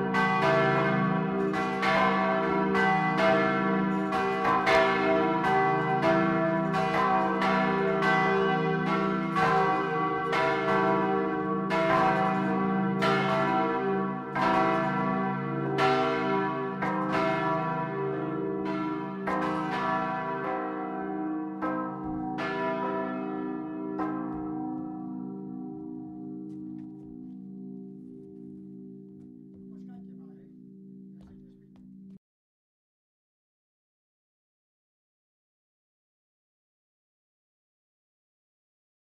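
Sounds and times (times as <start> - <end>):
church bells ringing: 0.0 - 32.0.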